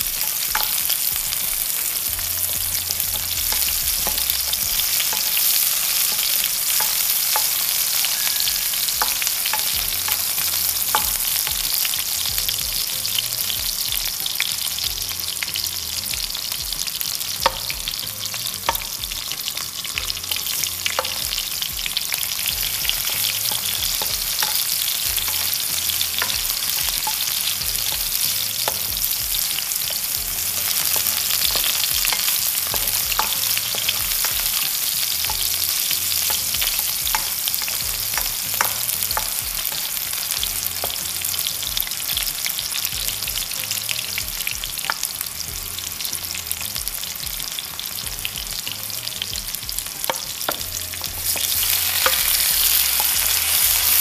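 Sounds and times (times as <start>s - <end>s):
garlic and onion sizzling in oil: 0.0s - 54.0s.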